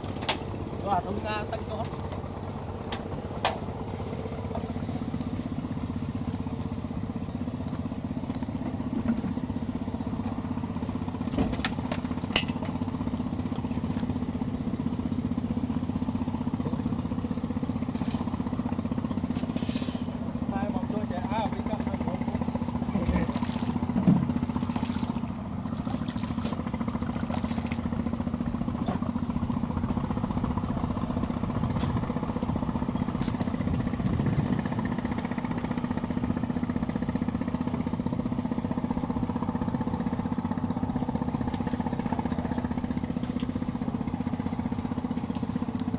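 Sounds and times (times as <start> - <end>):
diesel engine running steadily: 0.0 - 45.9.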